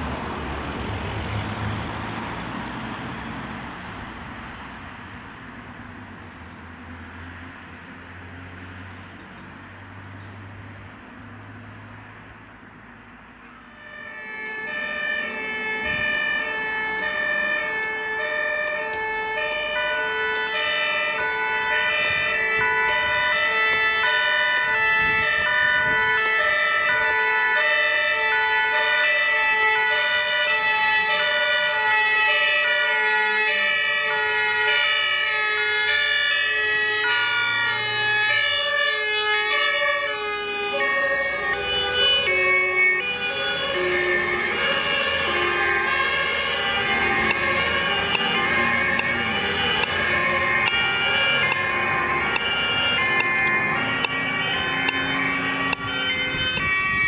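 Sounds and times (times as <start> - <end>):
two-tone sirens: 0.0 - 9.9, 10.7 - 57.0
traffic noise: 0.0 - 57.0.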